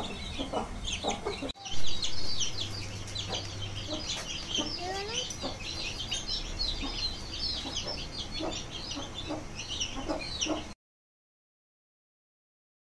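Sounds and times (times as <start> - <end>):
chicks peeping: 0.0 - 10.8.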